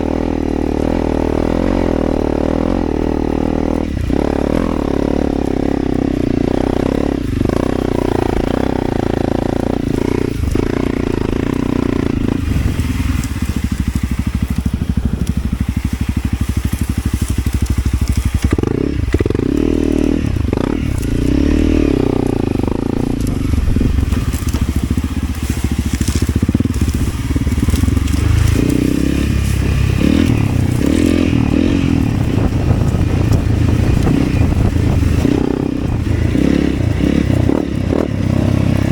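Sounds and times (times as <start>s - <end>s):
motorcycle engine revving: 0.0s - 38.9s
rough crackling noise: 0.0s - 38.9s.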